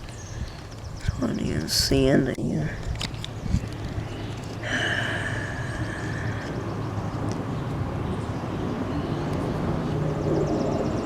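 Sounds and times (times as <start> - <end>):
distant engine rumble: 0.0 - 11.0.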